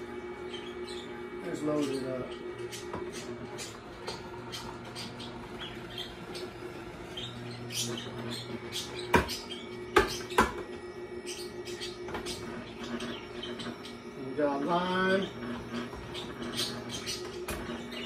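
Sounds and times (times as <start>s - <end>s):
juicer humming: 0.0s - 18.0s
produce squeaking and crackling: 0.3s - 14.2s, 14.9s - 18.0s.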